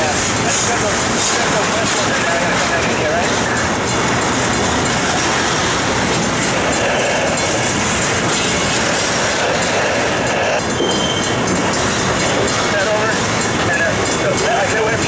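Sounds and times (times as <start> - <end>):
freight train wheels clattering: 0.0 - 15.0.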